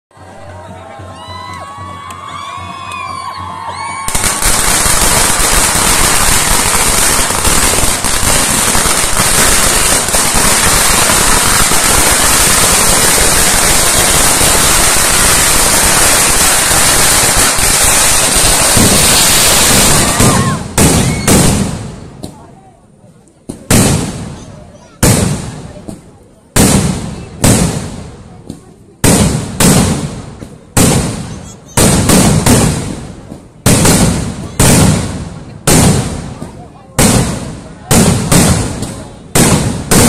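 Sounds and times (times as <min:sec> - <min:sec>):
firecracker explosions: 0:03.8 - 0:40.0.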